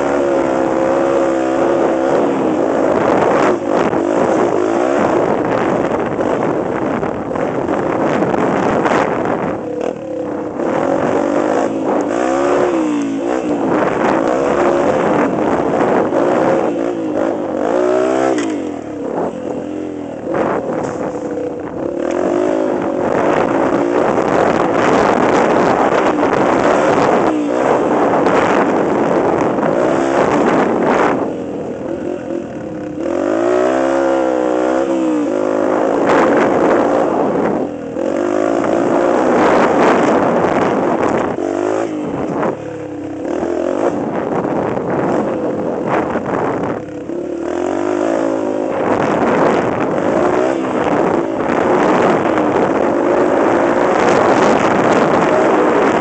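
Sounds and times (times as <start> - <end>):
off-road vehicle engine revving: 0.0 - 56.0
wind rushing over microphone: 0.0 - 56.0.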